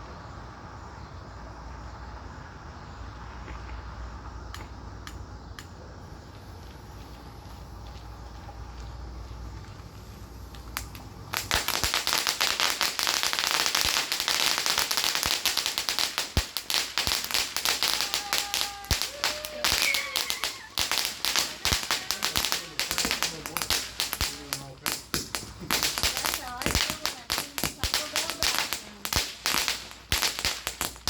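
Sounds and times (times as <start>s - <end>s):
firework fountain crackling: 3.0s - 31.0s.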